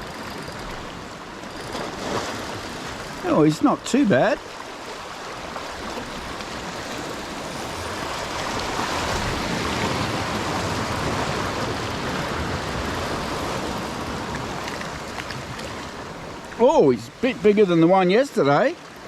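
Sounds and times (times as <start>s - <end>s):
ocean surf washing in: 0.0s - 18.9s.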